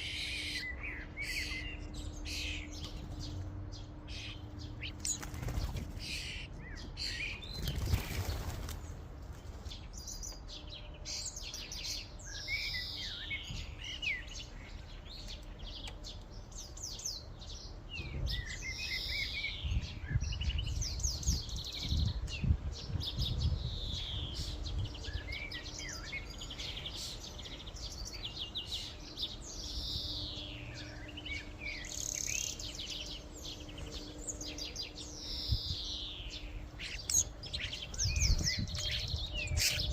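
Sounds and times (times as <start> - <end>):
starlings chattering: 0.0 - 39.9.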